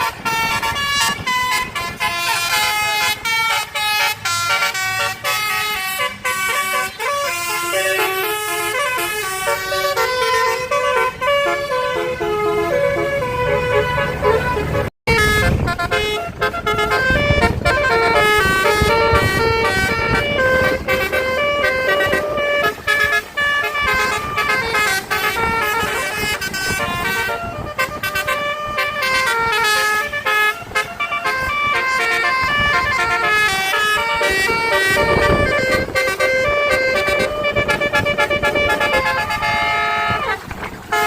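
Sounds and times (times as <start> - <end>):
musical bus air horn: 0.0 - 41.0.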